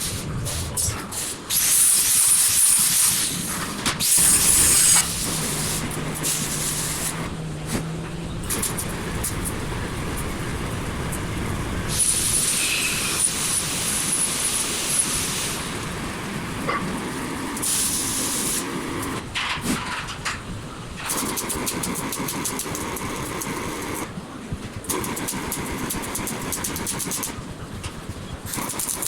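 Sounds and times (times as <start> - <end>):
welding arc sizzling: 0.0 - 19.9, 21.0 - 24.1, 24.9 - 27.4, 28.4 - 29.0.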